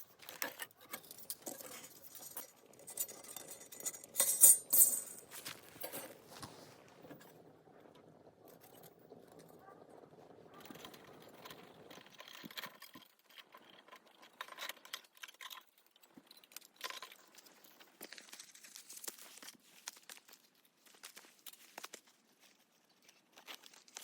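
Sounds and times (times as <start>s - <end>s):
crinkling and rustling with clicks: 0.0s - 24.0s.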